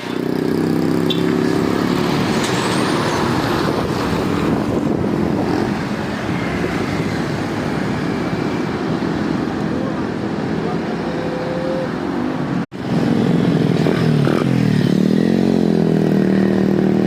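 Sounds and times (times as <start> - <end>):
road noise rush: 0.0 - 17.0
truck engine: 0.0 - 17.0.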